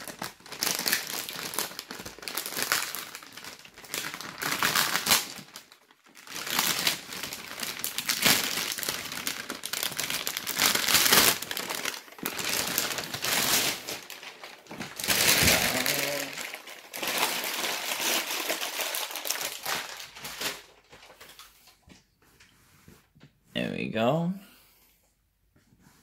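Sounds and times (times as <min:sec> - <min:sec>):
plastic bag crinkling and tearing: 0:00.0 - 0:21.8.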